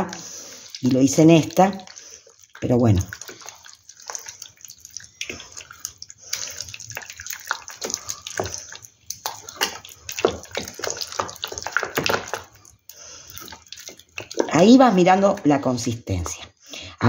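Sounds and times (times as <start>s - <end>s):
spoon stirring wet paste: 0.0s - 16.4s.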